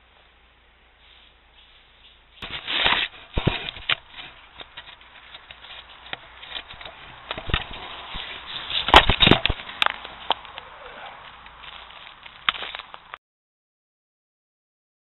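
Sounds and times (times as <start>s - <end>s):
rustling on camera microphone: 1.0s - 13.2s.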